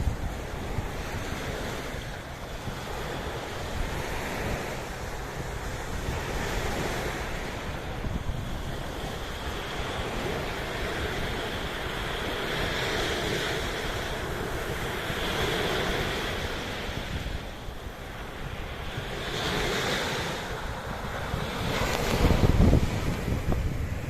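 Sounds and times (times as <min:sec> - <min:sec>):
sea waves washing in: 0:00.0 - 0:24.0
wind buffeting microphone: 0:00.0 - 0:24.0.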